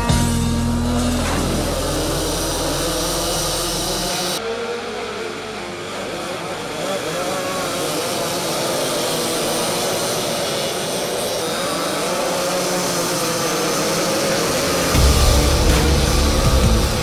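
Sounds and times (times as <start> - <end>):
kart engines buzzing: 0.0 - 17.0.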